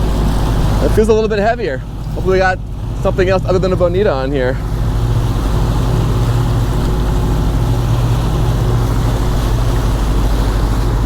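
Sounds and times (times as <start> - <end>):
boat engines droning: 0.0 - 11.0
water noise: 0.0 - 11.0
wind: 0.0 - 11.0.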